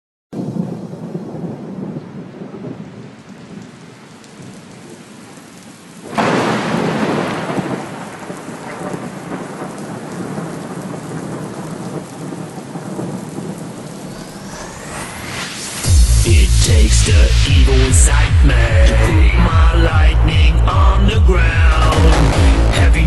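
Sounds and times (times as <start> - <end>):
loud thunderclap: 0.4 - 3.8, 6.0 - 23.0
thunder rumble: 0.4 - 5.1, 6.0 - 23.0
steady rain: 0.4 - 23.0.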